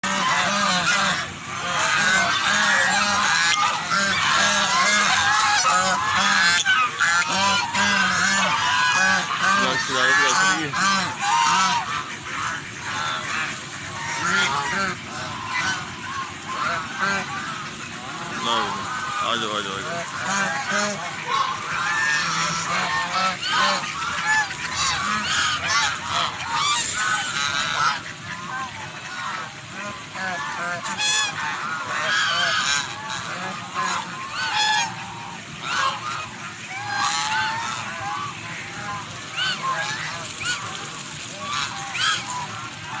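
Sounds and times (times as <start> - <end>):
flock of waterfowl honking: 0.0 - 43.0.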